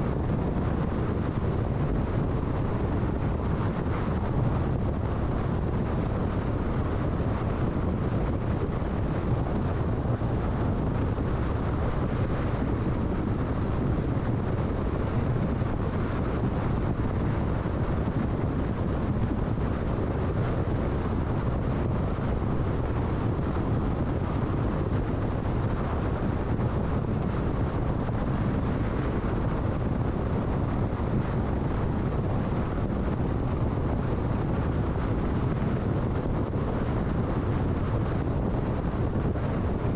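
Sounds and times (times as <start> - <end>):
car tyre and wind noise: 0.0 - 39.9.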